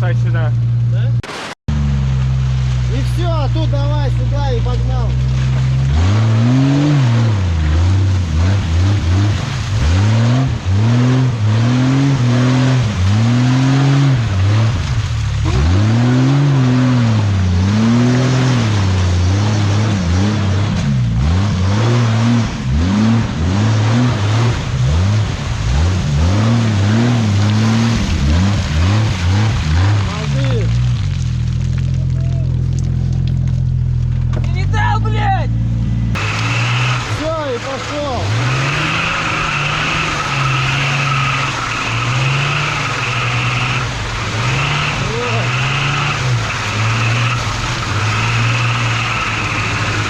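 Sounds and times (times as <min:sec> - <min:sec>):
off-road vehicle engine revving: 0:00.0 - 0:50.0.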